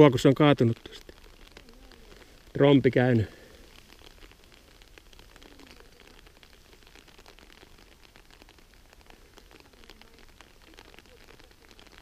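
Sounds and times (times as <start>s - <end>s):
light rain patter: 0.0s - 12.0s.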